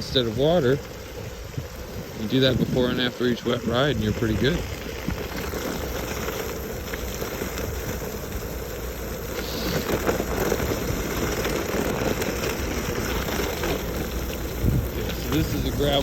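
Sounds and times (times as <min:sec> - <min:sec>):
skateboard wheels rumbling: 0:00.0 - 0:16.0.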